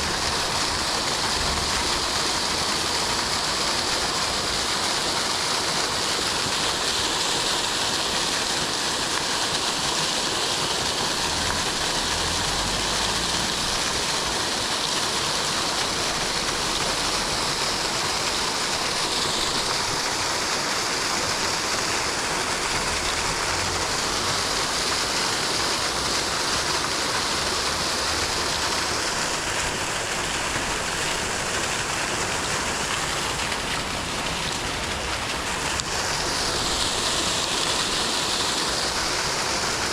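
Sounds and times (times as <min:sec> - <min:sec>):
fast stream rushing: 0:00.0 - 0:39.9.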